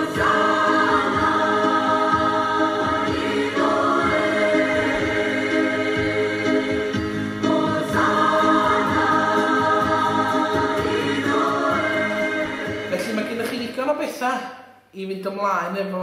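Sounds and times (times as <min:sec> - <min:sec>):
choir singing held chords: 0:00.0 - 0:13.4.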